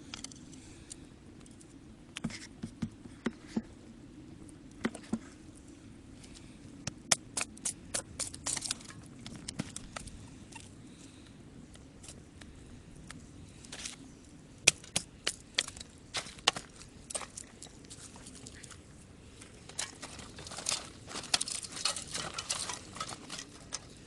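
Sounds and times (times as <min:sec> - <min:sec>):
campfire crackling: 0:03.8 - 0:24.0.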